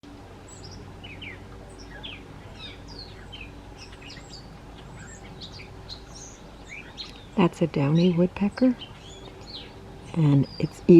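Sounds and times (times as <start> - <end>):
low steady hum: 0.0 - 10.9
small birds chirping: 0.4 - 10.9.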